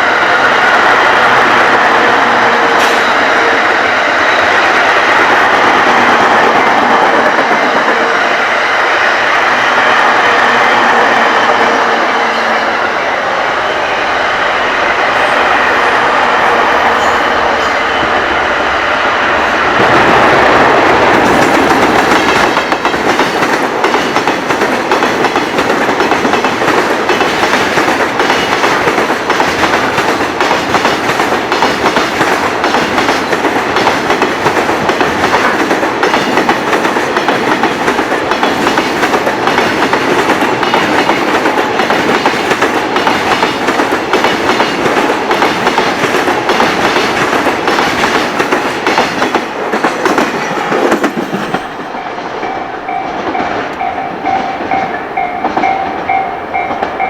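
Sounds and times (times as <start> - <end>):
freight train wheels clattering: 0.0 - 12.4, 19.4 - 57.0.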